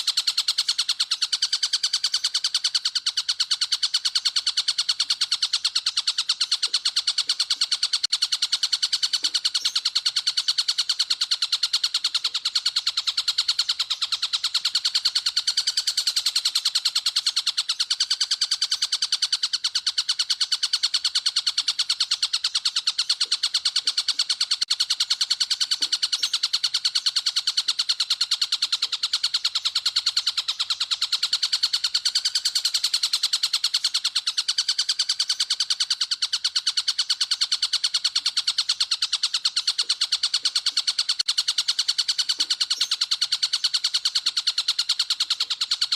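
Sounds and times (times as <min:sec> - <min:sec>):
songbird chirping trill: 0:00.0 - 0:45.9.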